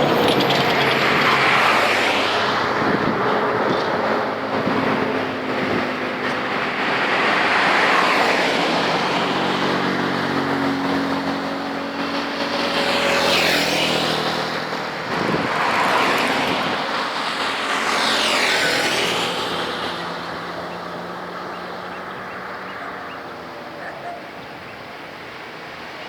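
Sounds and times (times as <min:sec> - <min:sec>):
engine hum: 0:00.0 - 0:26.0
vehicles passing: 0:00.0 - 0:26.0.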